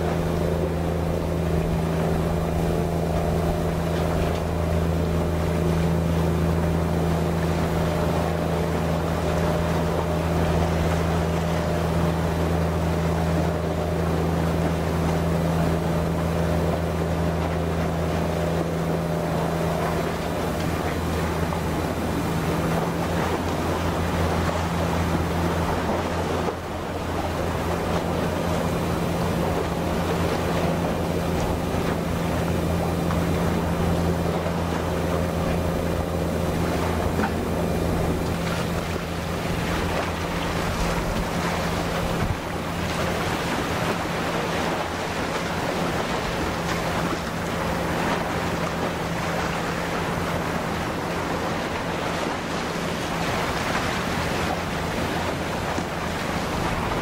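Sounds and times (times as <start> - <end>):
ship machinery hum: 0.0 - 57.0
wind and water hiss: 0.0 - 57.0.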